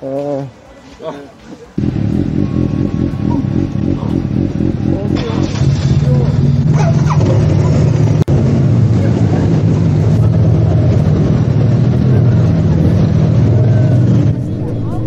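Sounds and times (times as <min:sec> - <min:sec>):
road and wind noise: 0:00.6 - 0:15.0
motorcycle engine running: 0:01.8 - 0:15.0.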